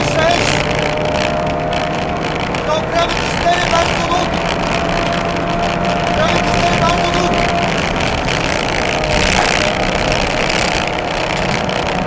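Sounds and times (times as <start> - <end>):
car engine running hard: 0.0 - 12.0
road and tyre noise: 0.0 - 12.0.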